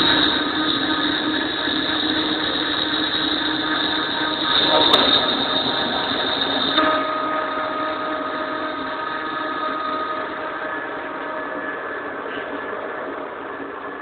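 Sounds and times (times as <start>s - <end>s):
machine tool whirring: 0.0s - 14.0s.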